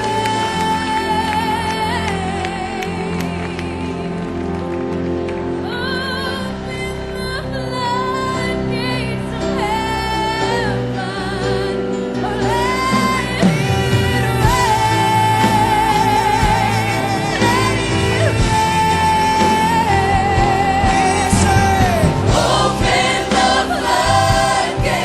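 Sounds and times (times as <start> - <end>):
gospel band with drums: 0.0 - 6.3, 9.6 - 25.0.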